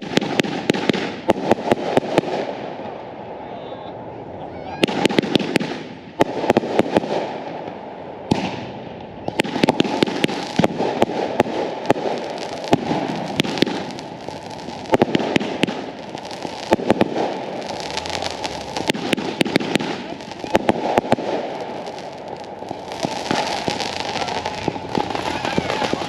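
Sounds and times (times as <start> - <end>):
fireworks crackling and popping: 0.0 - 3.0, 4.8 - 26.0.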